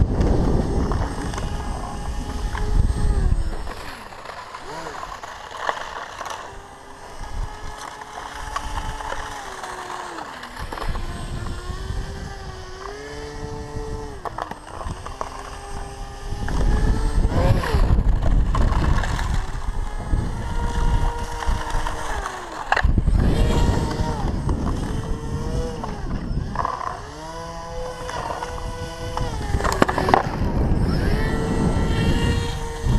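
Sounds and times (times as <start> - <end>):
electric motor and propeller whining: 0.0 - 32.9.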